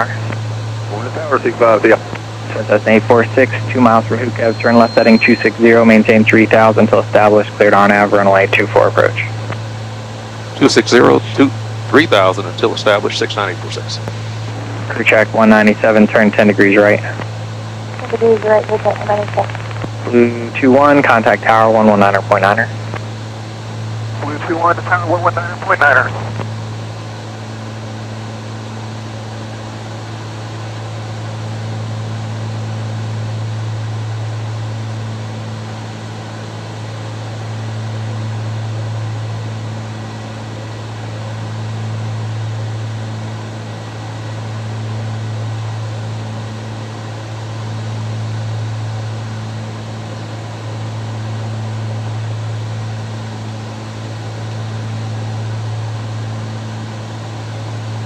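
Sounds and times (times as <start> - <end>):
twin piston aircraft engines droning: 0.0 - 58.0.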